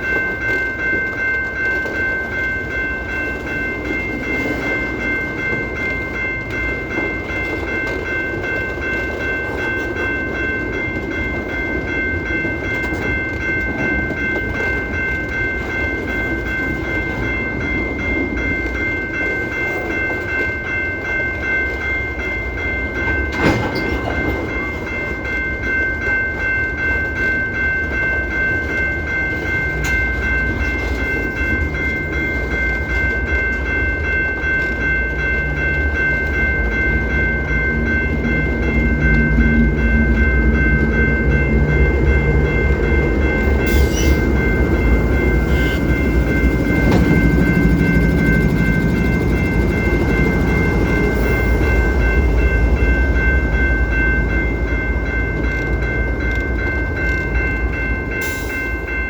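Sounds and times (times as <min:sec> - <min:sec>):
rhythmic clicking: 0:00.0 - 0:59.0
train rumbling: 0:00.0 - 0:59.0.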